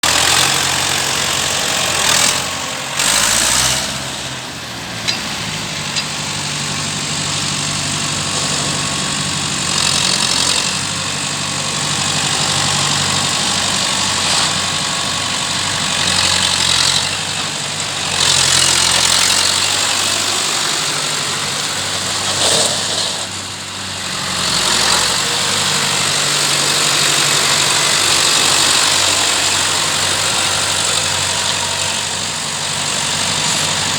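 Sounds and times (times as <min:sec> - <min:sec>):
tractor diesel engine idling: 0:00.0 - 0:33.9.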